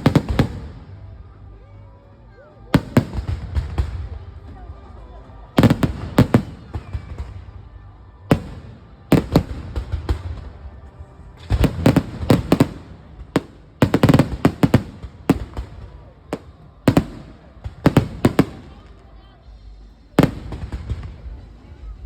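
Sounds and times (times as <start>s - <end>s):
fireworks exploding: 0.0s - 1.2s, 2.7s - 19.2s, 20.1s - 21.7s.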